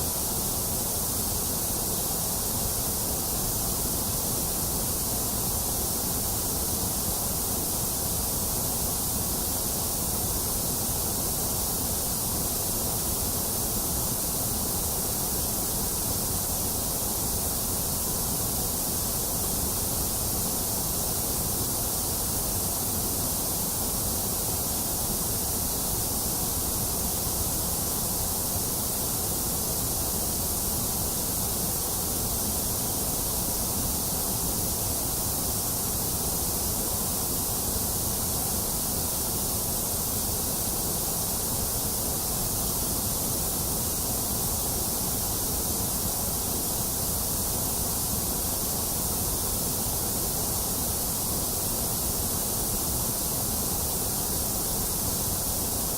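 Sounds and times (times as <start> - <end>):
white noise hiss: 0.0 - 55.9.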